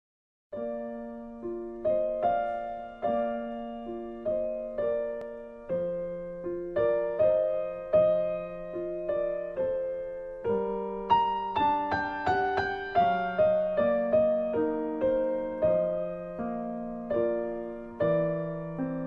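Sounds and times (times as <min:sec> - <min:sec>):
gentle piano melody: 0:00.5 - 0:19.0.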